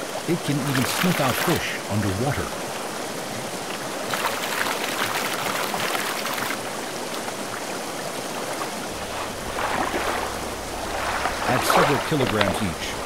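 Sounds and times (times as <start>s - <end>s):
river flowing: 0.0s - 13.0s
water splashing: 0.0s - 13.0s.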